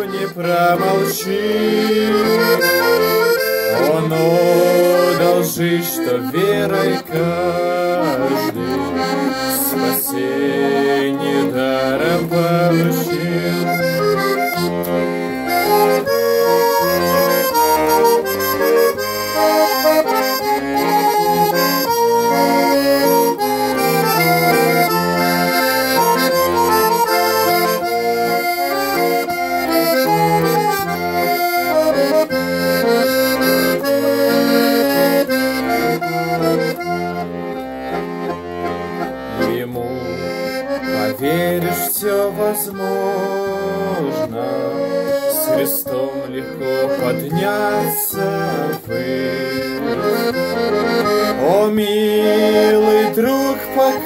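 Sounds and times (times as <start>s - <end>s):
accordion playing: 0.0s - 54.0s.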